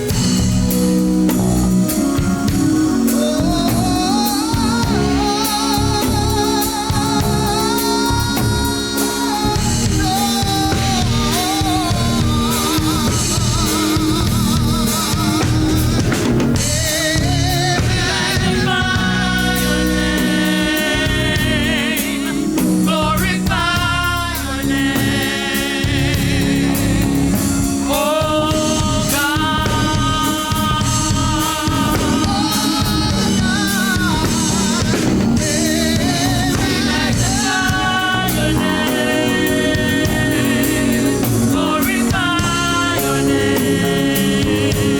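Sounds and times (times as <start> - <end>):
band playing gospel music: 0.0 - 44.9
drums: 0.0 - 44.9
person singing with vibrato: 0.0 - 44.9
strong bass line: 0.0 - 44.9.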